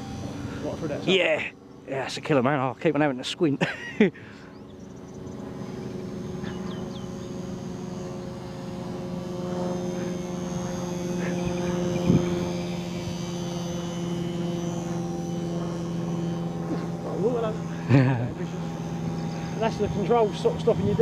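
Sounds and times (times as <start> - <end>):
model plane motor droning: 0.0 - 21.0.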